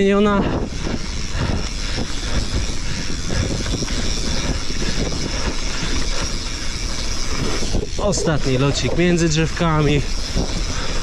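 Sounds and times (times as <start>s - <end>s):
bike rattling over bumps: 0.0s - 11.0s
tyre and wind rush: 0.0s - 11.0s.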